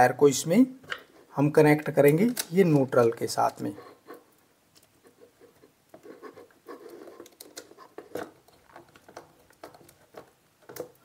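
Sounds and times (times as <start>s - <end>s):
wires being handled: 0.8s - 11.0s
screwdriver scratching and clicking: 2.0s - 11.0s.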